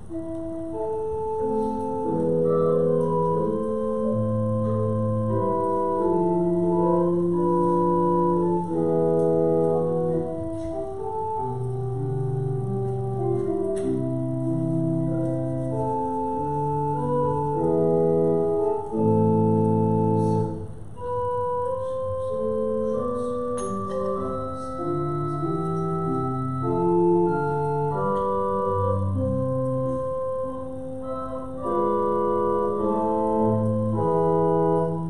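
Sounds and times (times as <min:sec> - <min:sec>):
organ playing slow chords: 0:00.0 - 0:35.0.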